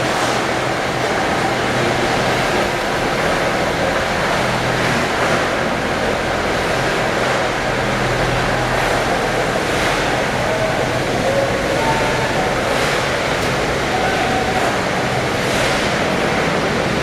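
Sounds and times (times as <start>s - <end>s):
machinery drone: 0.0s - 17.0s.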